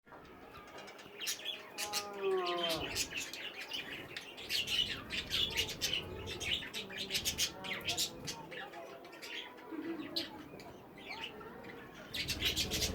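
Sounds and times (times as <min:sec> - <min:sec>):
budgerigars chirping and chattering: 0:00.5 - 0:12.9.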